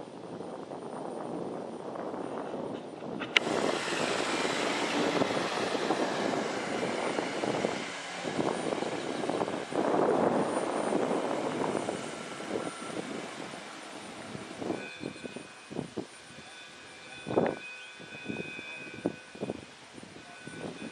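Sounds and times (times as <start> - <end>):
rushing noise of scrapping work on steel: 3.4 - 20.9.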